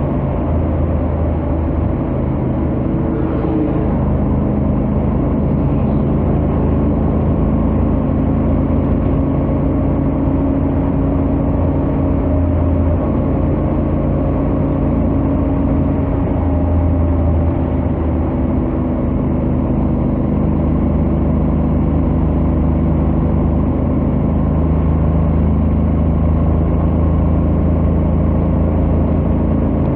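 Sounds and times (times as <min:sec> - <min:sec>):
motorcycle engine cruising steadily: 0:00.0 - 0:29.9.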